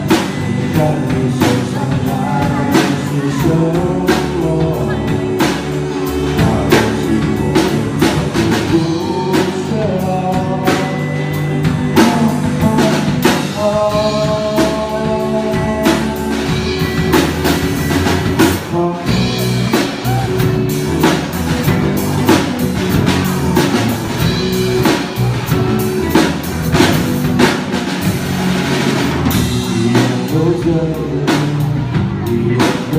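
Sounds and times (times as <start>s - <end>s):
person singing: 0.0s - 27.7s, 29.2s - 32.9s
rock band playing: 0.0s - 32.9s.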